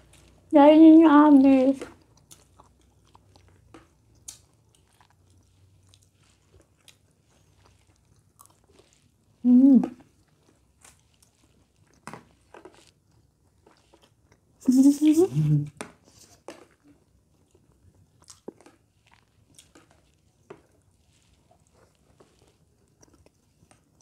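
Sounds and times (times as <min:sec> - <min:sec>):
chewing with soft crunches: 0:00.0 - 0:00.6, 0:01.4 - 0:14.6, 0:15.7 - 0:24.0.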